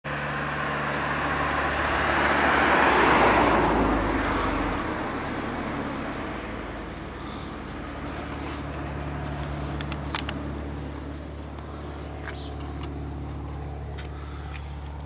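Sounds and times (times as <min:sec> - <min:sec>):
low engine hum: 0:00.0 - 0:15.0
vehicle passing: 0:00.1 - 0:15.0.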